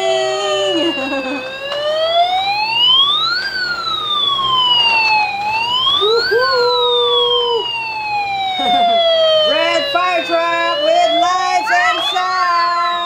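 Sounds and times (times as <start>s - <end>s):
toy electronic siren wailing: 0.0s - 13.0s
steady electronic tone: 1.4s - 13.0s.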